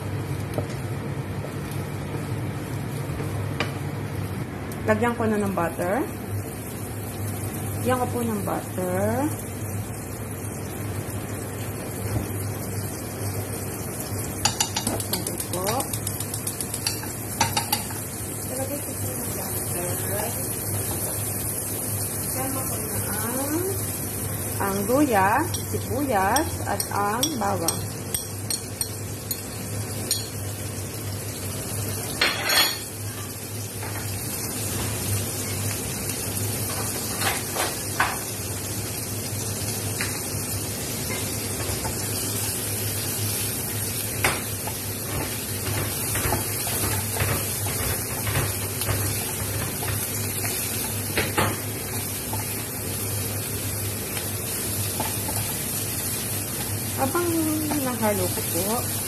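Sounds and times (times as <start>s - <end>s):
garlic sizzling in butter: 1.4s - 59.0s.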